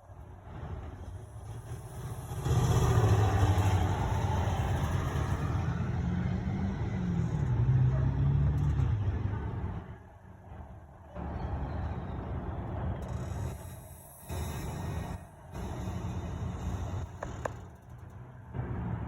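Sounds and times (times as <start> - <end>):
vehicle engine hum: 0.0 - 19.0.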